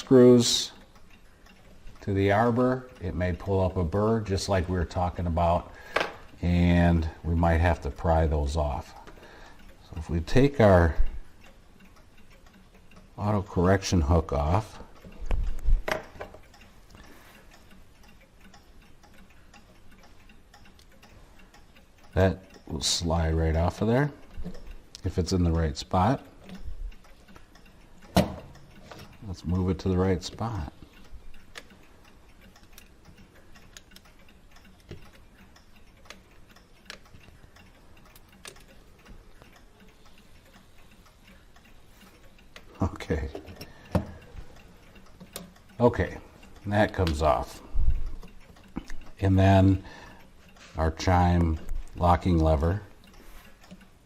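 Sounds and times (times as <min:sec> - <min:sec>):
faint clock ticking: 0:00.0 - 0:54.0.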